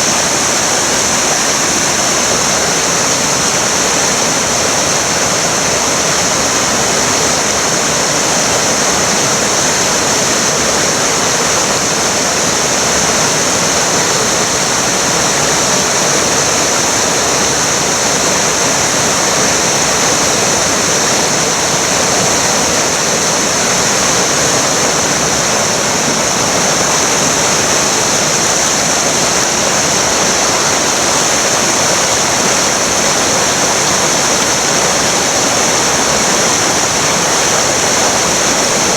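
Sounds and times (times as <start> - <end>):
river water roaring: 0.0 - 38.9.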